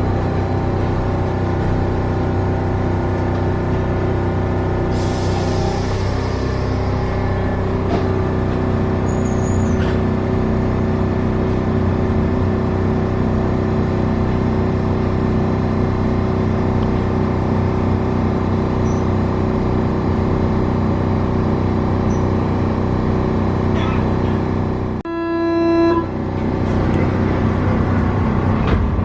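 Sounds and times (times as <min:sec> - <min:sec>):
metro train running: 0:00.0 - 0:29.0.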